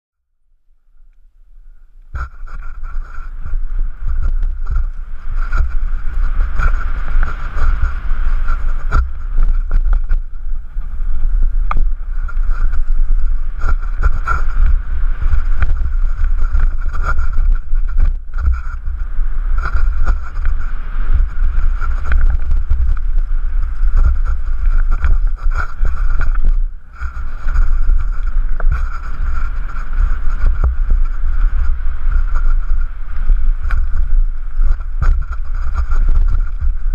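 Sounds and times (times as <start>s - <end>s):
wind buffeting camera: 1.0s - 36.9s
bike rattling over bumps: 2.1s - 36.9s.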